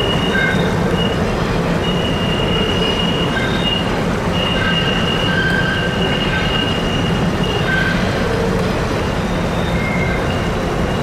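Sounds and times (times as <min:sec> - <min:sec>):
freight train rumbling: 0:00.0 - 0:11.0
train wheel squeal: 0:00.0 - 0:11.0.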